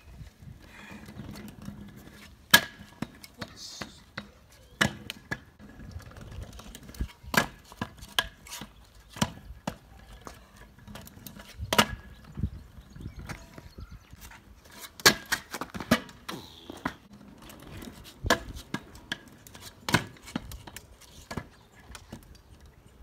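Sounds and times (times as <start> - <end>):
scooter wheel rumble: 0.0 - 23.0
scooter deck clacking on paving: 0.2 - 23.0.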